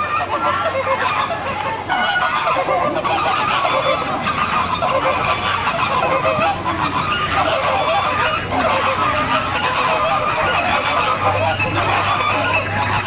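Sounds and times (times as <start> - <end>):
flamingos calling: 0.0 - 13.0.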